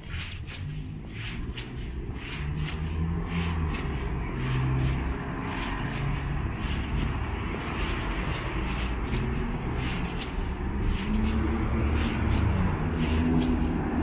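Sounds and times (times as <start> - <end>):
footsteps on asphalt: 0.0 - 14.0.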